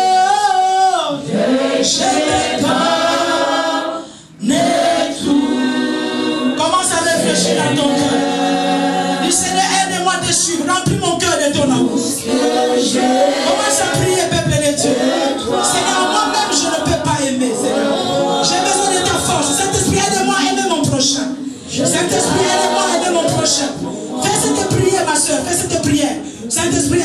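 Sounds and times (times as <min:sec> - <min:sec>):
voices singing along: 0:00.0 - 0:27.0.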